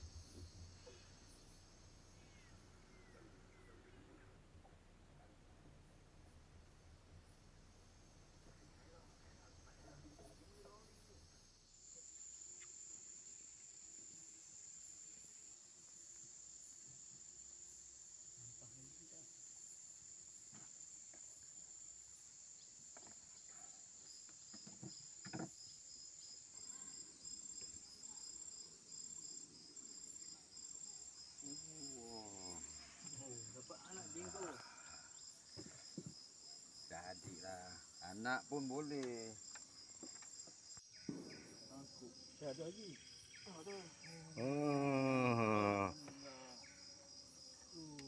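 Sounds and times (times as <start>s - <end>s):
pulsing insect call: 0.0s - 4.3s, 7.2s - 48.0s
insects buzzing: 0.0s - 5.3s, 6.0s - 48.0s.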